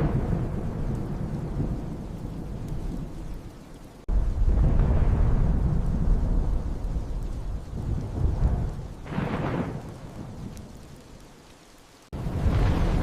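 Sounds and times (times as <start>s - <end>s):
sharp thunderclap: 0.0s - 3.2s, 4.1s - 10.6s, 12.1s - 13.0s
deep rolling thunder: 0.0s - 3.5s, 4.1s - 10.9s, 12.1s - 13.0s
rain: 0.0s - 13.0s.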